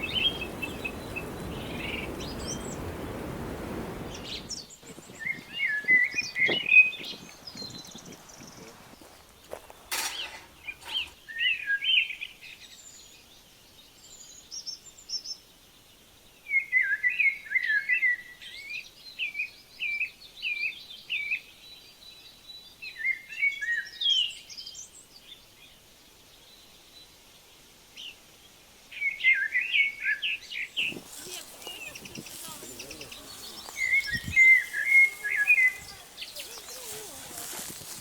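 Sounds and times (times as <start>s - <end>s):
songbird chirping: 0.0s - 38.0s.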